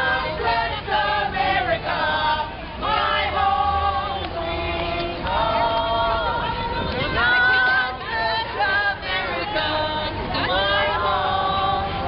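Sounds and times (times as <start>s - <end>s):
group singing worship song: 0.0s - 12.0s.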